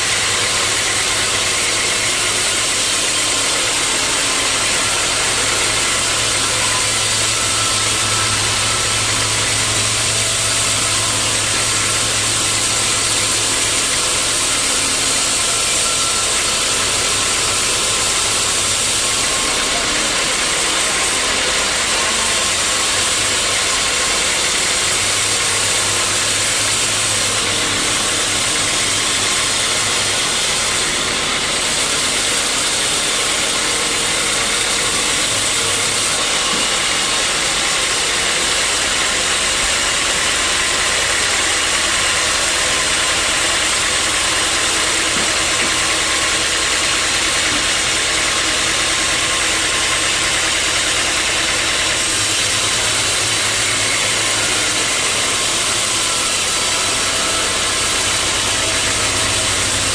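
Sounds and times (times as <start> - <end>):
sawmill machinery noise: 0.0 - 59.9.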